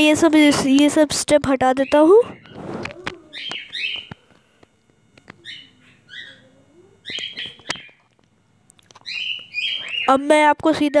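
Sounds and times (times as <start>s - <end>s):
small birds chirping: 1.6s - 8.1s, 8.7s - 11.0s.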